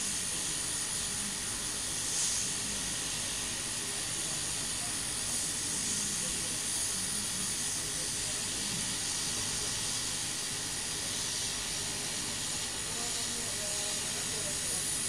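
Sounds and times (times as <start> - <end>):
hot air gun hissing: 0.0 - 15.0.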